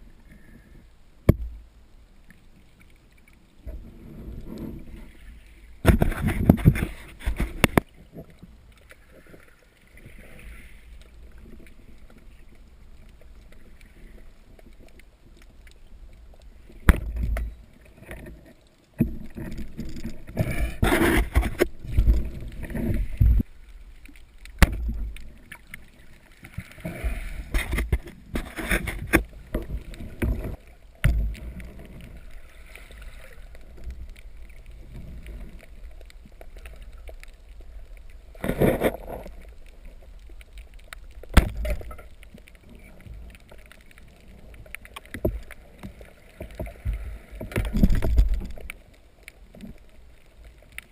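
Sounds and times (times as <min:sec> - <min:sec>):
water sloshing and gurgling: 0:00.0 - 0:50.9
water splashing: 0:01.3 - 0:50.9.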